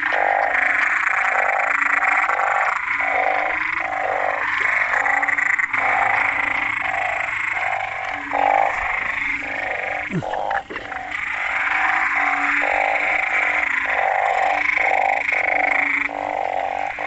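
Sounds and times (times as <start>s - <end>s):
bullfrogs croaking: 0.0s - 17.0s
high-pitched background frog chorus: 0.0s - 17.0s.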